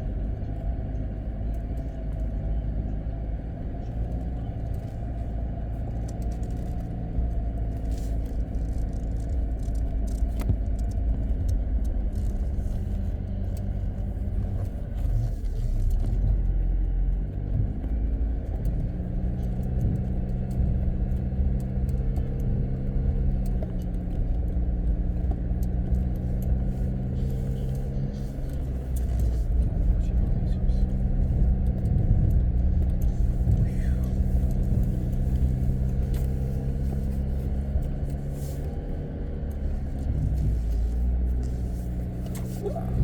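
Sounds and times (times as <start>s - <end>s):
car engine rumbling: 0.0s - 43.0s.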